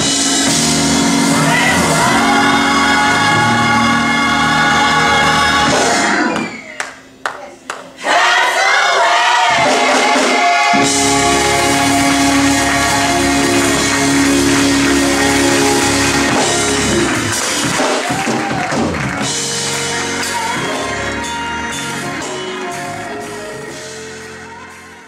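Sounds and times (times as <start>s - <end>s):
gospel voices and band chord: 0.0s - 6.6s, 8.0s - 25.0s.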